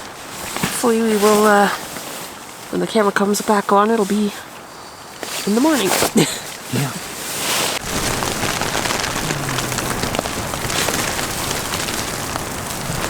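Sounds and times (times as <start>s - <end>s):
freezing rain hitting a tent: 0.0s - 4.3s, 5.2s - 13.0s.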